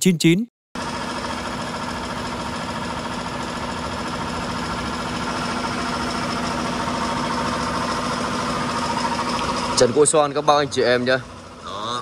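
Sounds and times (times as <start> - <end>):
air compressor humming: 0.8 - 12.0.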